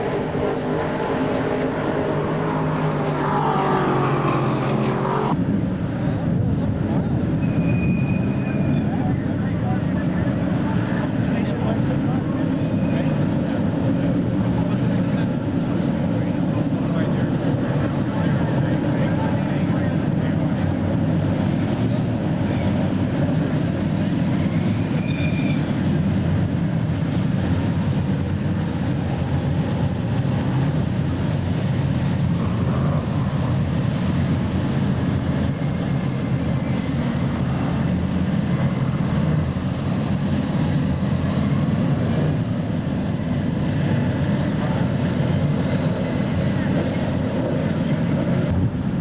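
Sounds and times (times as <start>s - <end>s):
race car engines roaring: 0.0s - 49.0s.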